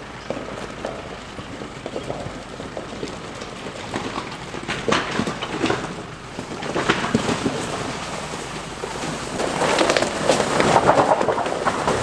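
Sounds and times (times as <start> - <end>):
tyres crunching ice and stones: 0.0 - 12.0.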